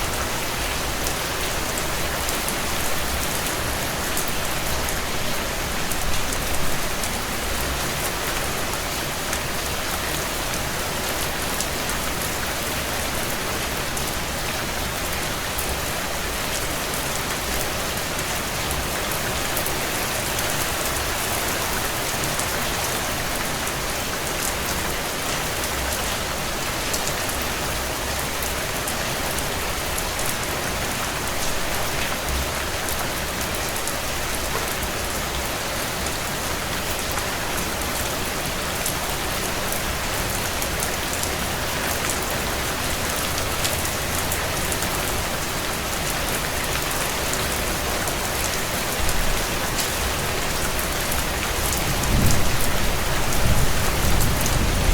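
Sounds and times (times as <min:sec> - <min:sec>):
heavy rain on a tin roof: 0:00.0 - 0:54.9.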